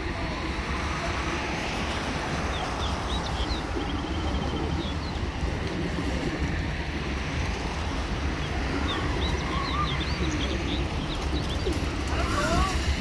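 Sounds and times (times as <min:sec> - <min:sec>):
pigeons cooing: 0:00.7 - 0:13.0.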